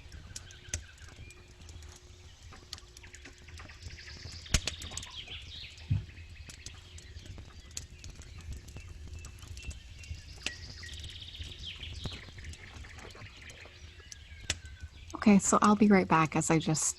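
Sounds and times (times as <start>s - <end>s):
campfire crackling and popping: 0.0s - 16.9s.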